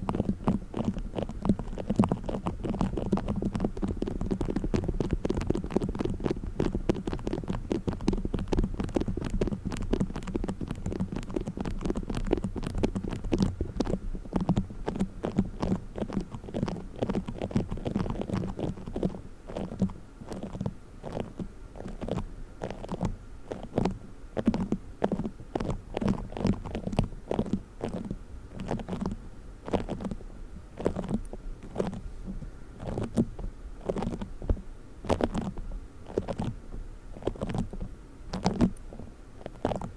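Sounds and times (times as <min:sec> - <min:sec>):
soft low rumble: 0:00.0 - 0:39.9.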